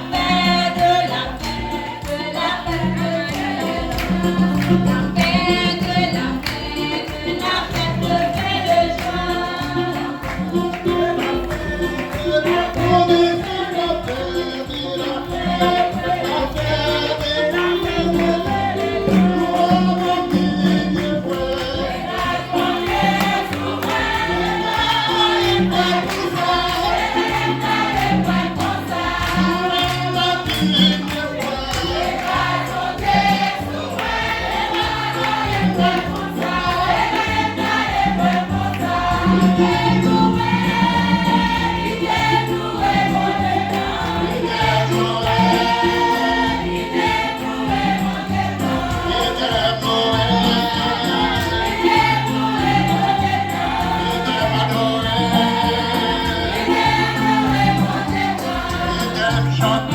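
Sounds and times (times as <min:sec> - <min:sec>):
choir singing a hymn: 0:00.0 - 0:59.9
light rhythmic percussion: 0:00.0 - 0:59.9
steady bass line: 0:00.0 - 0:59.9.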